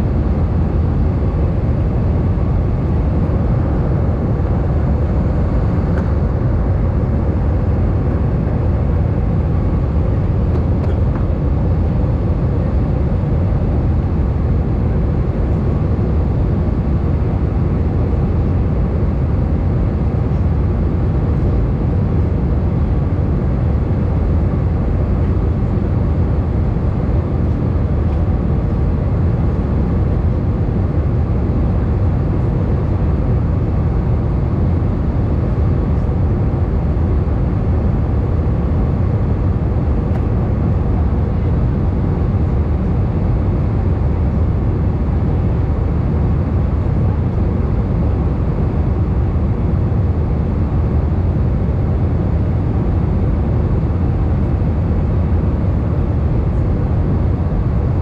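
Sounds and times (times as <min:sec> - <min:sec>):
faint steady hum: 0:00.0 - 0:58.0
jet engine cabin drone: 0:00.0 - 0:58.0.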